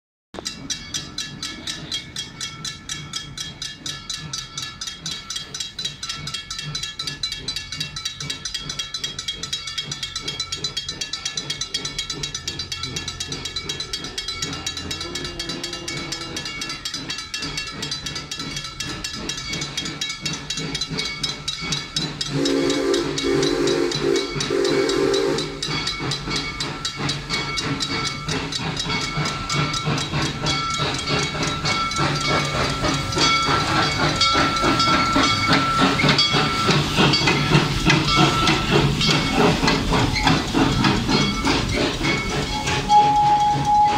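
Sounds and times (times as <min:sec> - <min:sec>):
locomotive chime whistle: 0:00.4 - 0:43.9
railroad crossing bell ringing: 0:00.4 - 0:43.9
train approaching with hiss: 0:00.4 - 0:43.9.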